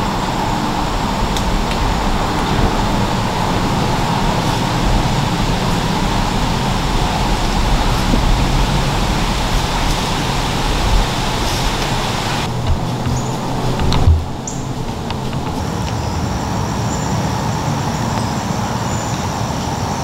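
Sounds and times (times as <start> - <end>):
steady rushing noise with low hum: 0.0 - 20.0.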